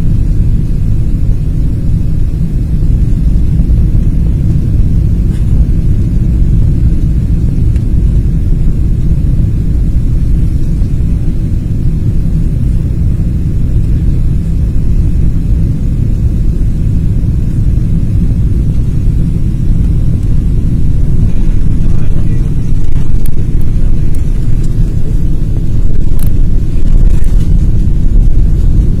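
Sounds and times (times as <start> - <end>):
jet engines rumbling: 0.0 - 29.0
rushing air: 0.0 - 29.0.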